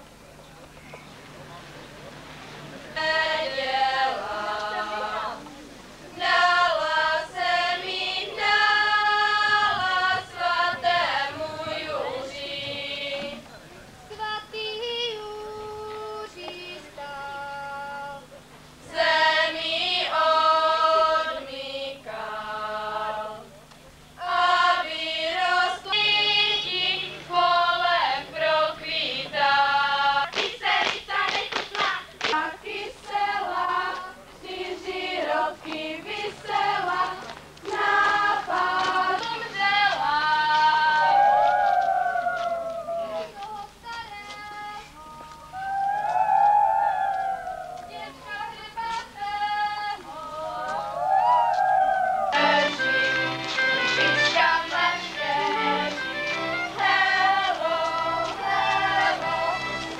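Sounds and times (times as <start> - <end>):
girls singing folk song: 2.9 - 18.2, 18.8 - 23.5, 24.1 - 46.1, 47.6 - 51.6, 52.4 - 59.9.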